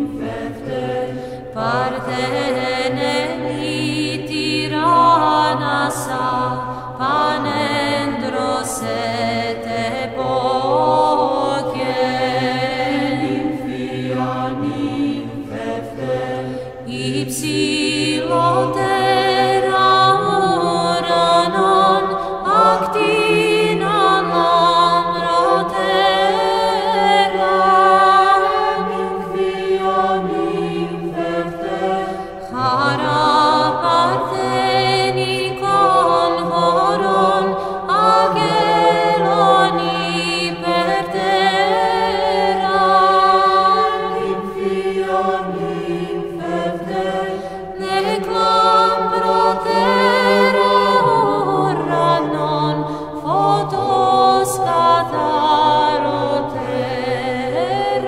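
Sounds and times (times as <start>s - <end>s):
choir chanting: 0.0s - 58.0s.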